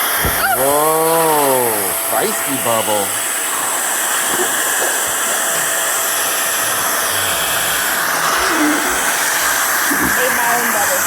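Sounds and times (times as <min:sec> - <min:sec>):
blower rushing air: 0:00.0 - 0:11.0.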